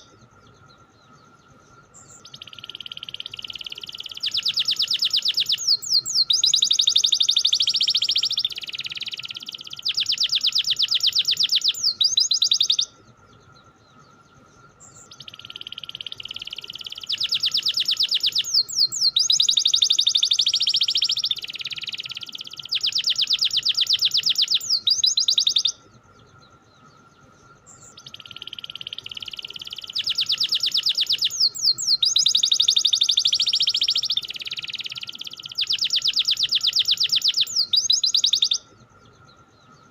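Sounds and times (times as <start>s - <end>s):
canary singing rolling trills: 0.0s - 39.9s
faint steady tone: 0.0s - 39.9s.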